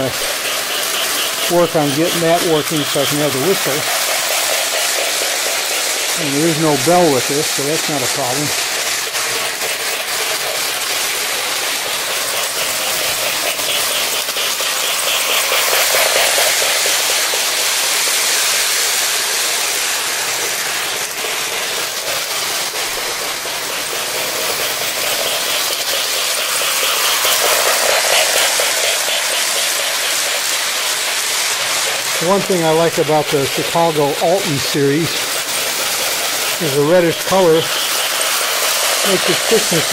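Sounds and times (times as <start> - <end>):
model train running: 0.0 - 39.9.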